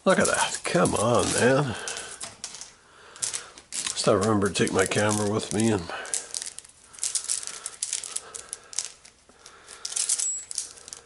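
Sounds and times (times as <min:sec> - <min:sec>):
metal cable armour rattling: 0:00.0 - 0:11.0.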